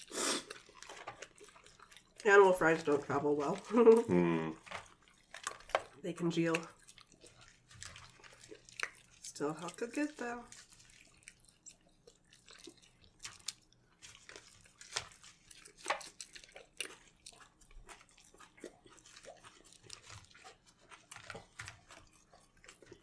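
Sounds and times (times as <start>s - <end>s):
person chewing crunchy fries: 0.0s - 23.0s.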